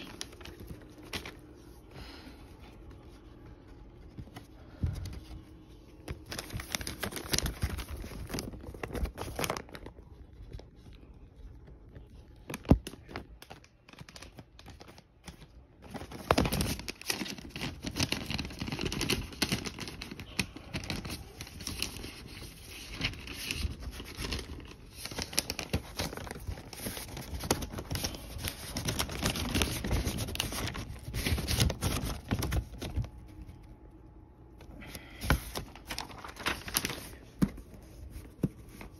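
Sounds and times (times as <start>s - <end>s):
paper and cardboard rustling: 0.0s - 1.9s, 2.5s - 34.0s, 34.9s - 38.9s.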